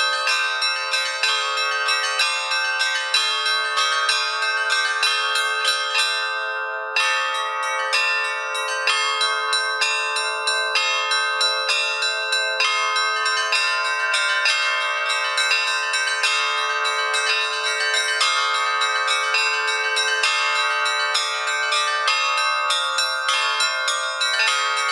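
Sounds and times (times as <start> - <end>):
bells ringing: 0.0 - 24.9.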